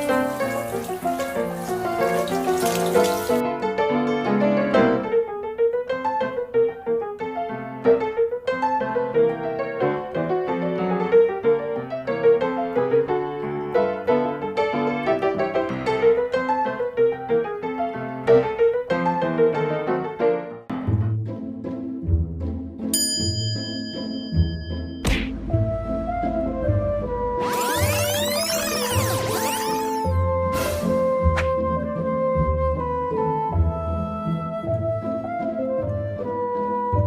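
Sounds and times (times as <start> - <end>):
piano music: 0.0 - 21.0, 22.9 - 37.0.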